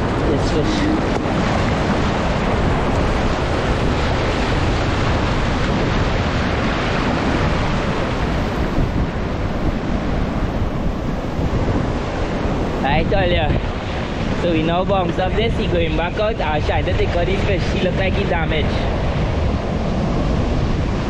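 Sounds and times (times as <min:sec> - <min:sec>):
surf washing up a beach: 0:00.0 - 0:21.0
wind buffeting microphone: 0:00.0 - 0:21.0.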